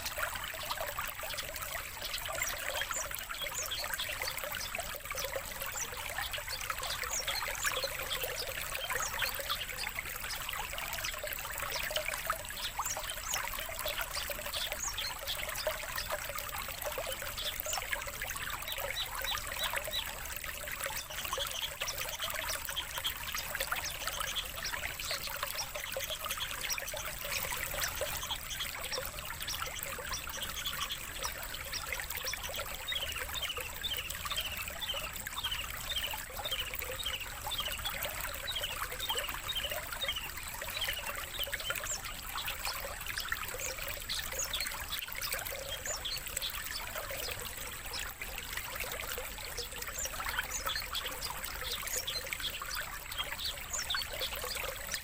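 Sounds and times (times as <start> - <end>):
songbird chirps: 0.0 - 55.0
water trickling: 0.0 - 55.0.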